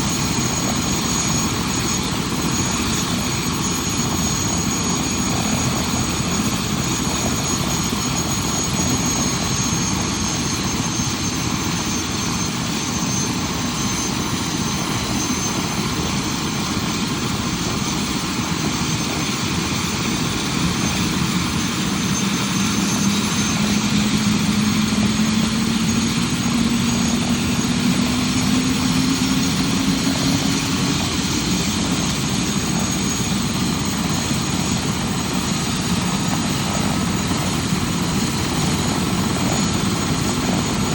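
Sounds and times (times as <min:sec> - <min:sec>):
helicopter engines and rotor: 0:00.0 - 0:40.9
high turbine whine: 0:00.0 - 0:40.9.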